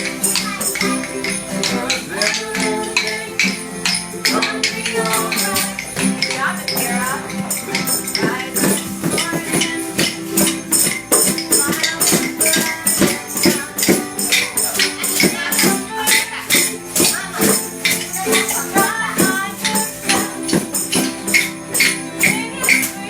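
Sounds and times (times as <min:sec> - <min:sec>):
hand percussion shaking and jingling: 0:00.0 - 0:23.0
ukuleles strumming chords: 0:00.0 - 0:23.0.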